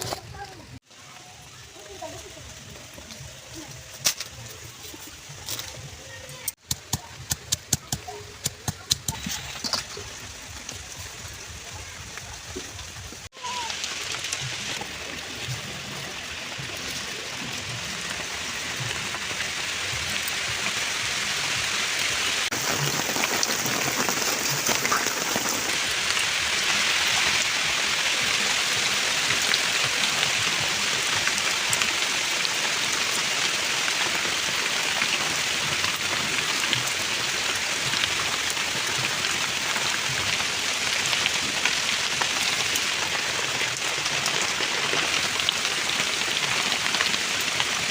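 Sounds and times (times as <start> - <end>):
food frying in hot oil: 8.5 - 47.9.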